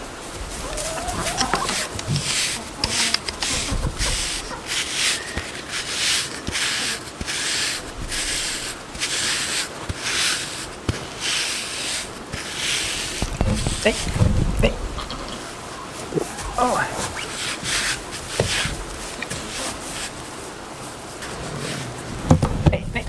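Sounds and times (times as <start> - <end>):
brush scratching through goat coat: 0.0 - 22.1.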